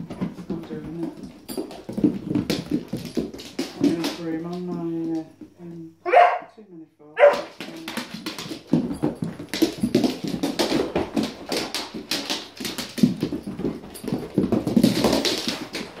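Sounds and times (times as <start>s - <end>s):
dog claws clattering on wooden floor: 0.0s - 5.6s, 7.2s - 16.0s.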